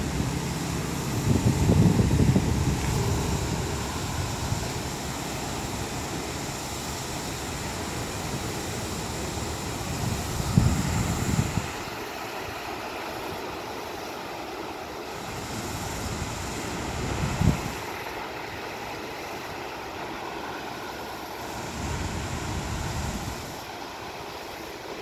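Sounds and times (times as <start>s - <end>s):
waves washing over rocks: 0.0s - 25.0s.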